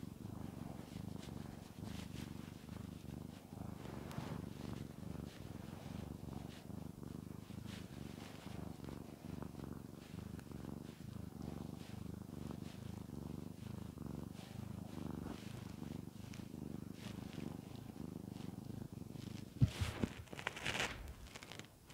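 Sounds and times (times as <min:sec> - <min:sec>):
cat purring: 0:00.0 - 0:21.9.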